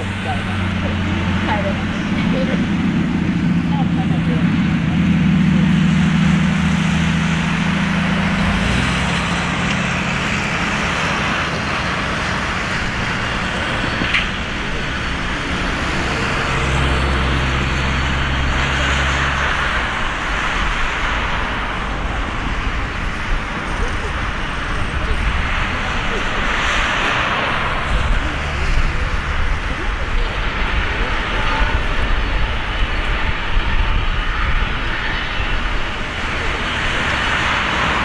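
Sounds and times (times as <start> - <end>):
jet engines rushing: 0.0 - 38.0
low engine hum: 0.0 - 38.0.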